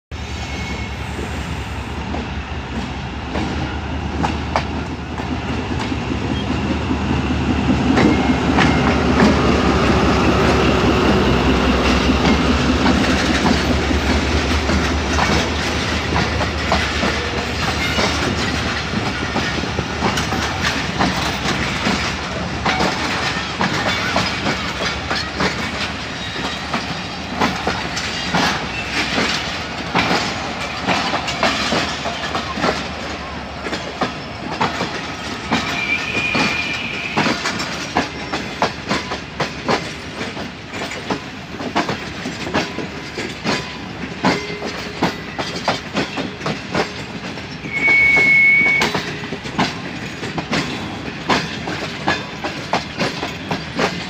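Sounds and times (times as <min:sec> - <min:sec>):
diesel locomotive engine: 0:00.1 - 0:54.0
clickety-clack of train wheels: 0:00.3 - 0:54.0.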